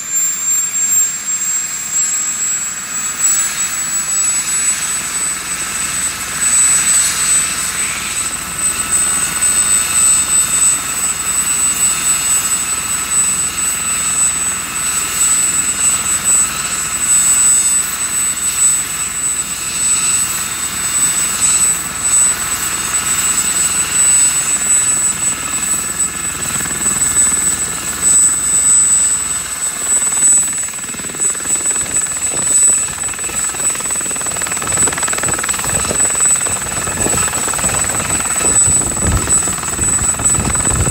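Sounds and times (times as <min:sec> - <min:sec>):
helicopter rotor noise: 0:00.0 - 0:40.9
helicopter turbine whine: 0:00.0 - 0:40.9.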